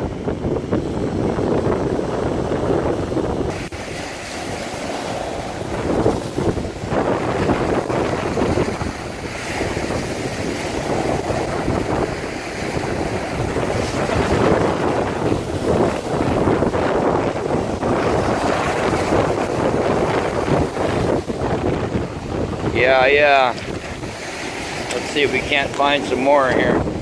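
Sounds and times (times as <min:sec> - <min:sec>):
waves washing on shore: 0:00.0 - 0:27.0
wind gusting on microphone: 0:00.0 - 0:27.0.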